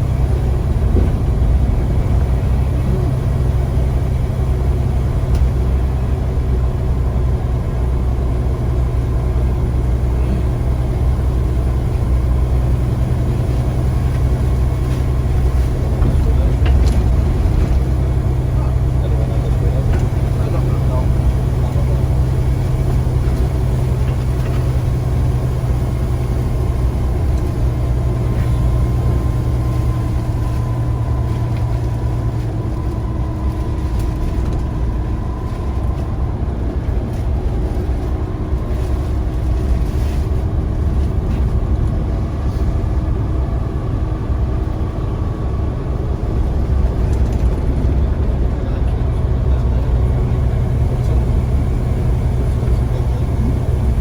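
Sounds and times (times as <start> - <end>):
bus diesel engine running: 0.0 - 54.0
faint engine whine: 0.0 - 54.0.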